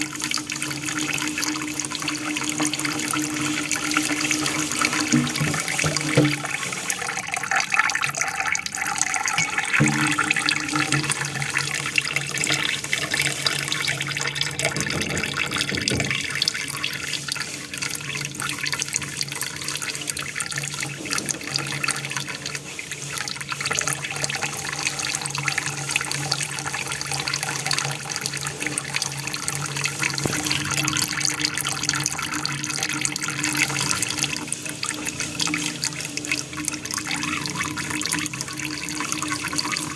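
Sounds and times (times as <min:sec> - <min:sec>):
water falling and splashing: 0:00.0 - 0:39.9.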